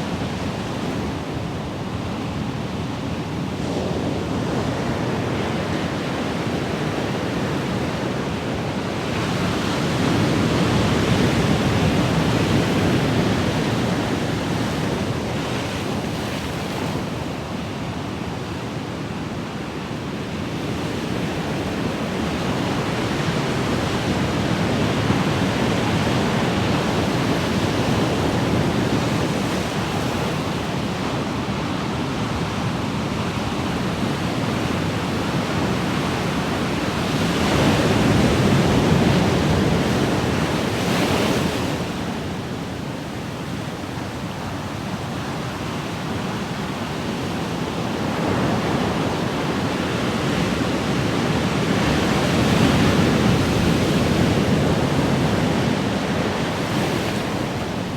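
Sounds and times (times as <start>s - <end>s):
ocean waves washing onto shore: 0.1s - 57.9s.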